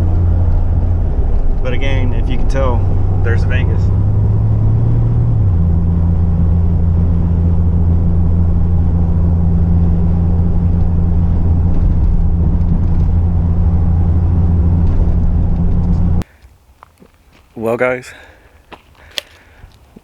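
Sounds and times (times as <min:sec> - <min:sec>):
engine and road noise in cab: 0:00.0 - 0:16.3.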